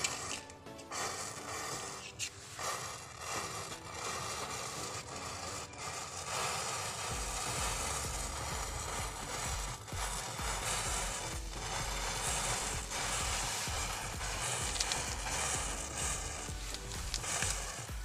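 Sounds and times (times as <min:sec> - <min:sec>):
matchsticks crackling as they burn: 0:00.0 - 0:18.0.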